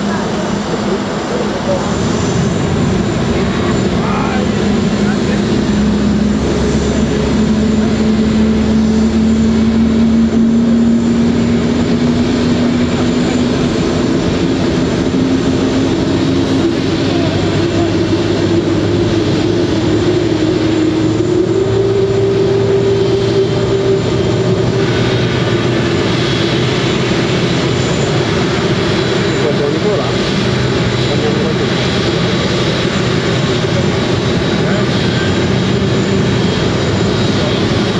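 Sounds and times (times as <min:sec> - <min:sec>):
jet engine starting up: 0:00.0 - 0:37.9.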